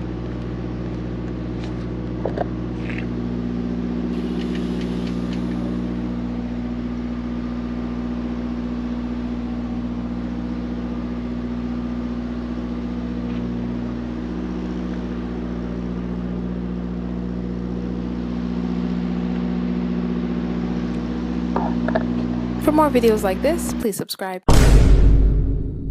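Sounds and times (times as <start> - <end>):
diesel truck engine idling: 0.0 - 23.8.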